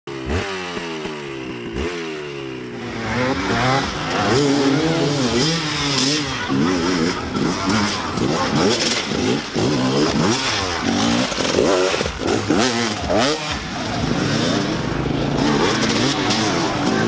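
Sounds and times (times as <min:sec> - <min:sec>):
dirt bike engine revving: 0:00.1 - 0:17.0.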